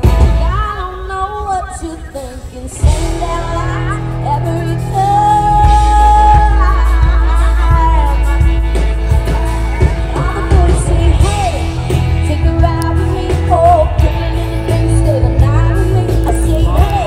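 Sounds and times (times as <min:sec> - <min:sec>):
live pop-rock band playing: 0:00.0 - 0:17.0
woman singing lead: 0:00.0 - 0:17.0.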